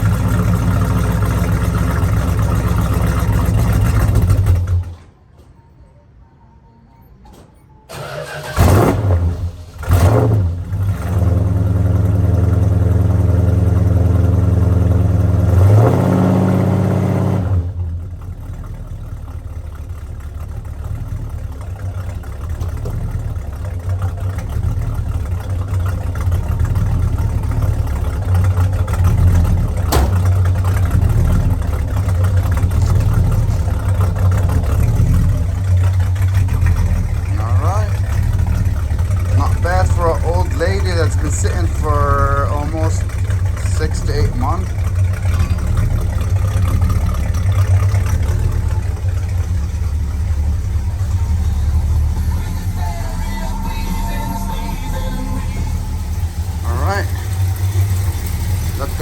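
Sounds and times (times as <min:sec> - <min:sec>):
car engine starting and idling: 0:00.0 - 0:06.0, 0:06.9 - 0:59.0.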